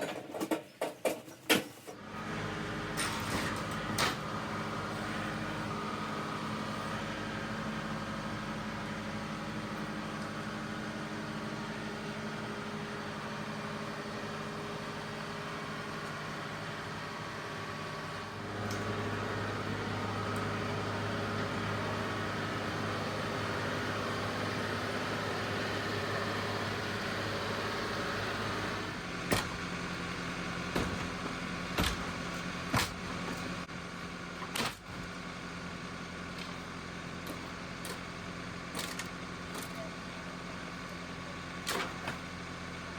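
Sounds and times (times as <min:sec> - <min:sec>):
engine running: 0:02.0 - 0:42.9.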